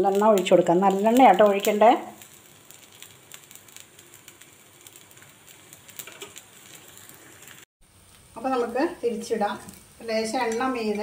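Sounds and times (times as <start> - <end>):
dosa sizzling on hot pan: 0.0 - 11.0
small crackles: 0.0 - 11.0.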